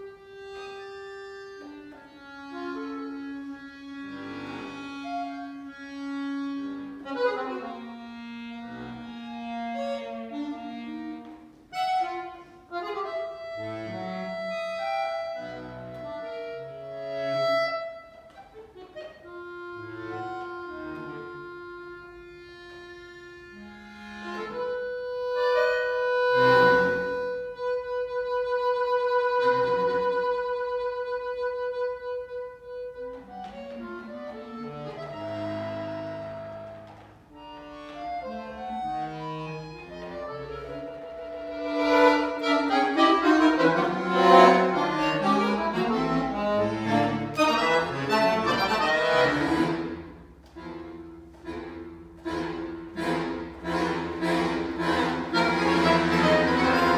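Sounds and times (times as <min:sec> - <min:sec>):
solo accordion playing: 0:00.0 - 0:56.9.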